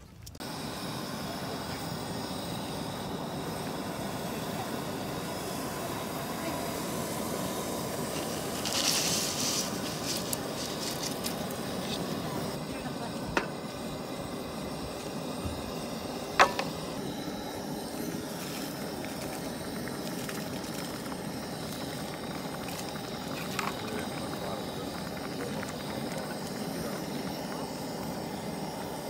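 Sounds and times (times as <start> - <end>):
water boiling in pot: 0.0 - 29.0
gas stove burner roaring: 0.4 - 29.0.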